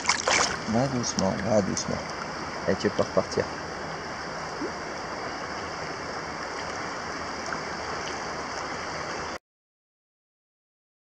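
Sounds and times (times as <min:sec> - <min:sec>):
river water rushing over stones: 0:00.0 - 0:09.4.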